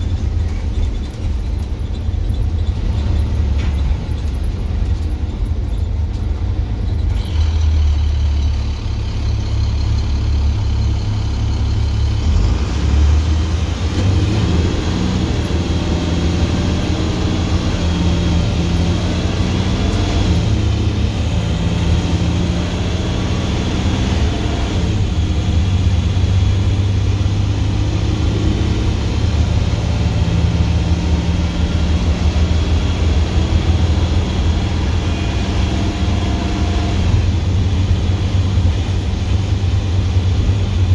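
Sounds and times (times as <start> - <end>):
diesel bus engine exhaust: 0.0 - 40.9.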